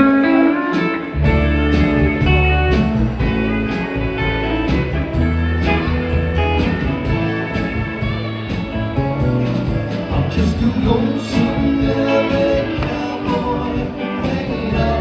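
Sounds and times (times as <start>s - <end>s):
bass line: 0.0s - 15.0s
country-rock band playing: 0.0s - 15.0s
picked guitar: 0.0s - 15.0s.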